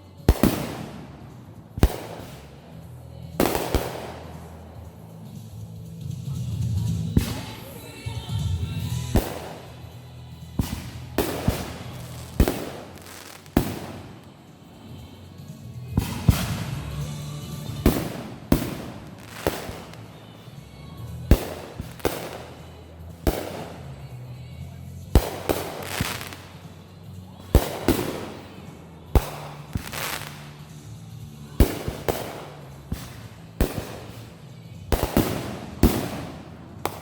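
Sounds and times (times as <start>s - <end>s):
fireworks banging and crackling: 0.0s - 37.0s.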